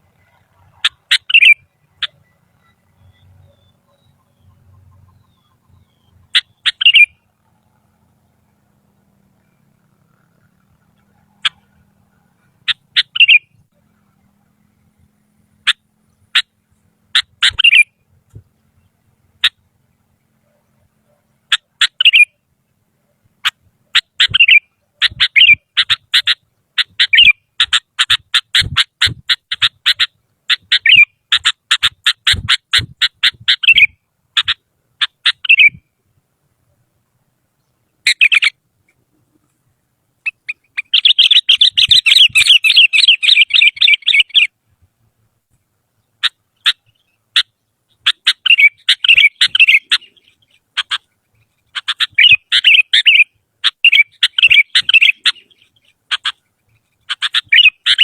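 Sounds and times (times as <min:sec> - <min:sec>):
bird chattering: 0:00.1 - 0:08.0, 0:09.2 - 0:13.6, 0:15.6 - 0:17.9, 0:18.8 - 0:22.5, 0:23.2 - 0:35.8, 0:37.9 - 0:39.6, 0:40.2 - 0:44.6, 0:46.0 - 0:58.0.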